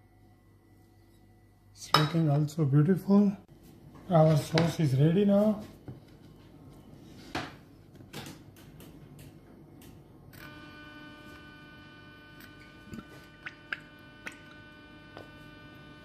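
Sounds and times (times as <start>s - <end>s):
electric hob humming with whine: 0.0s - 4.0s, 6.1s - 16.0s.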